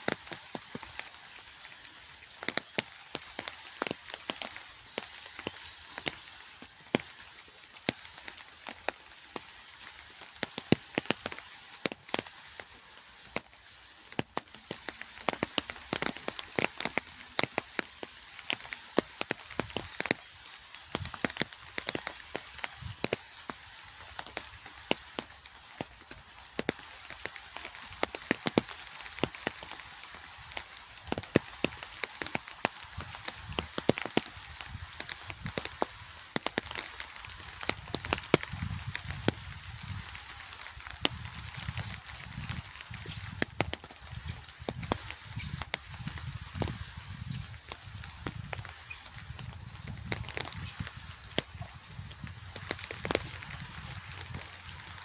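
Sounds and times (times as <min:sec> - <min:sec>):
rain hissing: 0:00.0 - 0:55.0
raindrops ticking close: 0:00.0 - 0:55.0.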